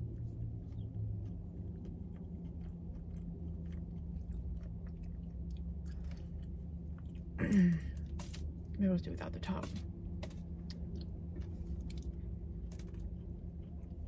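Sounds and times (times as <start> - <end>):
steady low hum: 0.0 - 14.0
person chewing: 0.1 - 8.4, 9.7 - 14.0.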